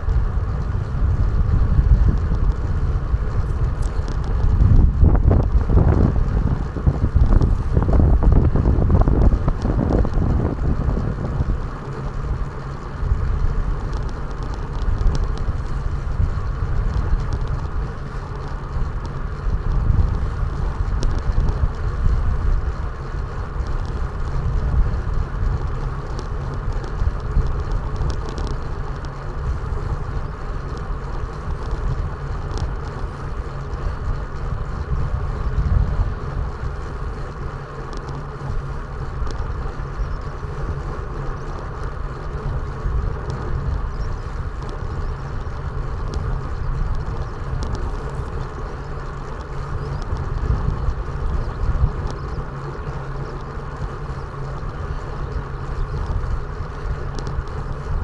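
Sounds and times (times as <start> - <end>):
road noise: 0.0 - 58.0
wind rushing over microphone: 0.0 - 58.0.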